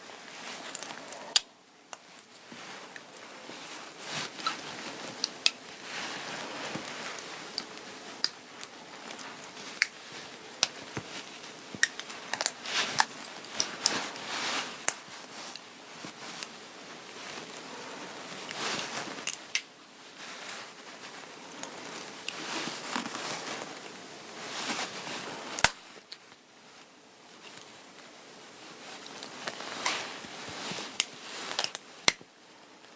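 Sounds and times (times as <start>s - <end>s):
clothing fabric rustling: 0.0s - 1.4s, 2.0s - 25.6s, 28.2s - 31.6s.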